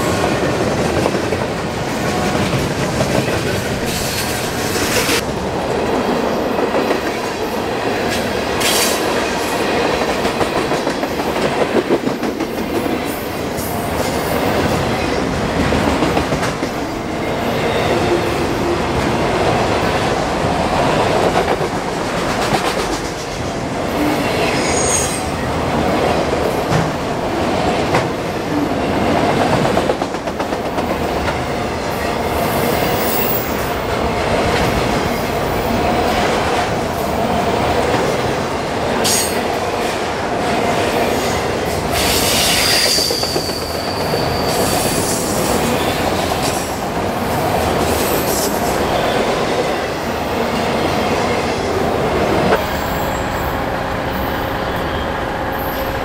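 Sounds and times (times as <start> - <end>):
freight train wheels clicking on rails: 0.0 - 56.0.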